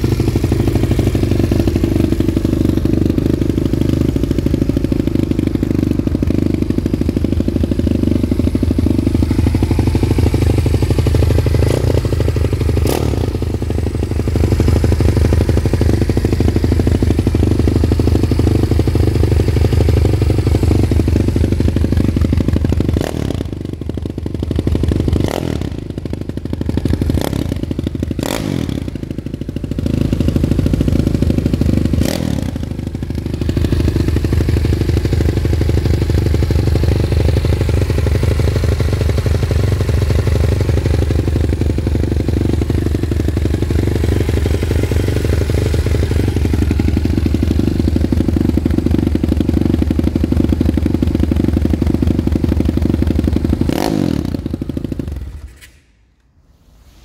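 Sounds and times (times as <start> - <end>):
motorbike engine running: 0.0 - 55.6.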